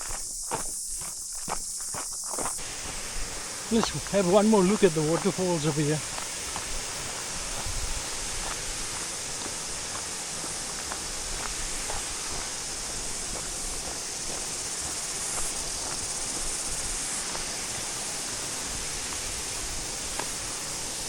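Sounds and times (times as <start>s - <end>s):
waterfall rushing: 2.6s - 21.0s.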